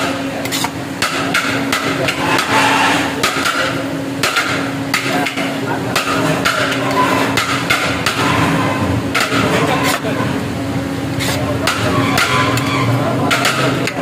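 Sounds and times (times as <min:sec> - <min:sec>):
metal utensils clanking on cookware: 0:00.0 - 0:10.4, 0:11.2 - 0:14.0.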